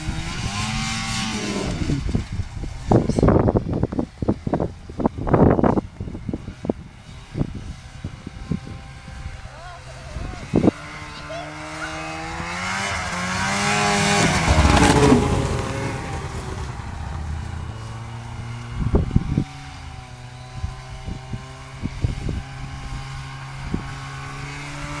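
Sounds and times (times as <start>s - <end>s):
snowmobile engine passing: 0.0s - 25.0s.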